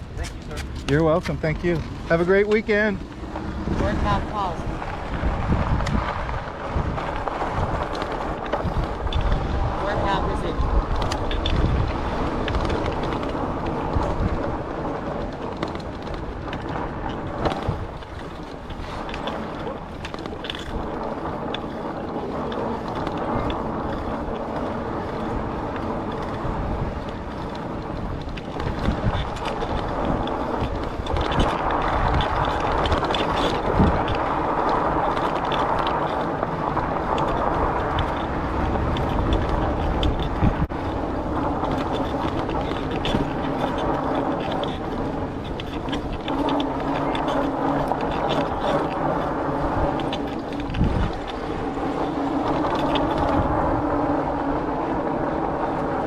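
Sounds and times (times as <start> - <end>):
tyre rumble: 0.0 - 56.0.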